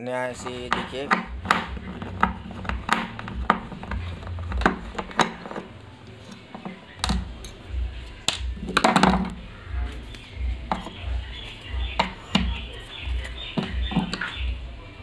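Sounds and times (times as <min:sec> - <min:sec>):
screwdriver tapping metal parts: 0:00.3 - 0:09.4, 0:10.1 - 0:14.4
rattle of knocks: 0:00.3 - 0:14.6.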